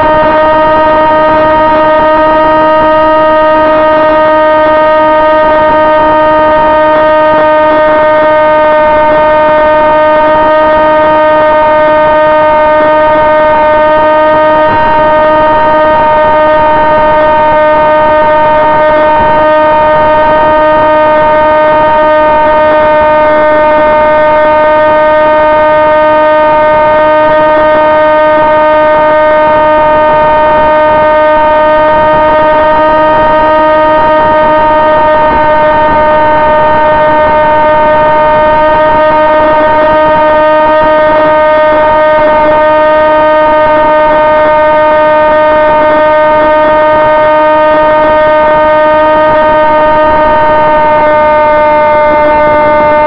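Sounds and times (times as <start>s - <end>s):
electric motor and propeller whine: 0.0s - 53.0s.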